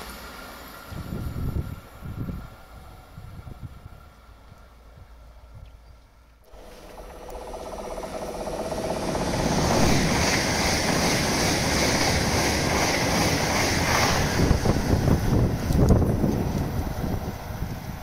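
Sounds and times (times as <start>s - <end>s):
train passing at speed: 0.0s - 5.6s, 6.5s - 18.0s.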